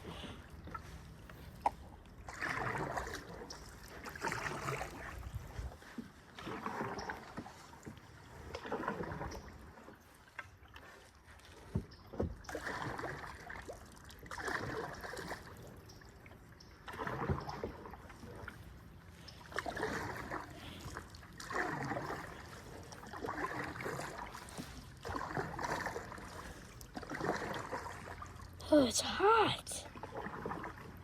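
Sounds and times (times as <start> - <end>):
paddle strokes in water: 0.0 - 28.6, 29.8 - 31.0.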